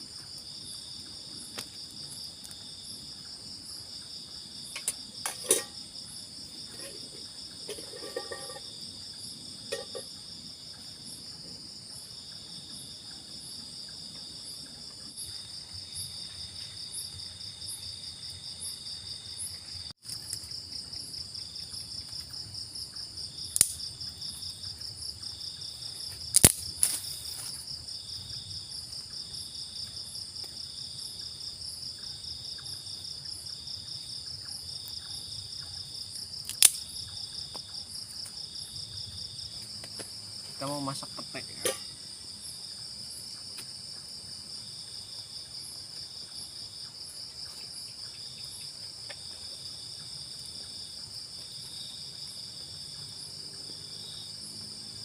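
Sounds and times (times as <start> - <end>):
insects chirring trill: 0.0 - 55.0
softer insect trill: 0.0 - 55.0.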